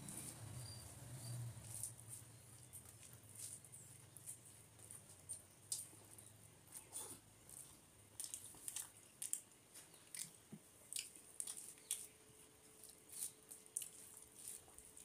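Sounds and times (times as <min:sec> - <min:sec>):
chewing: 0:02.6 - 0:15.0.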